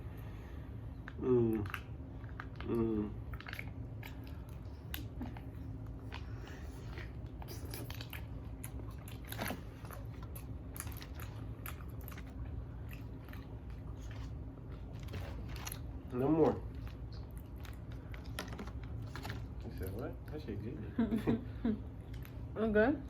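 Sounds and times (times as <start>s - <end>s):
chewing and crunching food: 0.1s - 20.8s, 21.8s - 22.6s.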